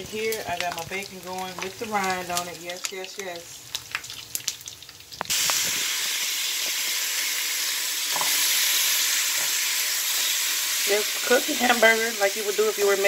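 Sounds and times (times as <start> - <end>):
bacon frying with popping fat: 0.0 - 13.0
meat sizzling in a skillet: 0.0 - 13.0.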